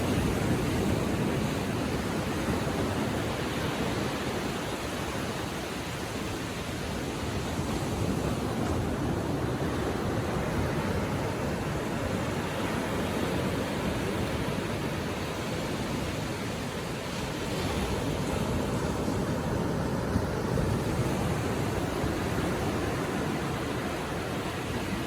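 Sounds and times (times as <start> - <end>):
small waves lapping on shore: 0.0 - 25.0.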